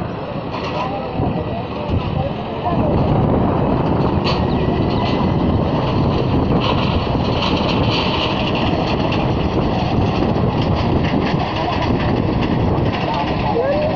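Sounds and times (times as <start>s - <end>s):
distant jet engine: 0.0s - 13.9s
wind buffeting microphone: 0.0s - 13.9s.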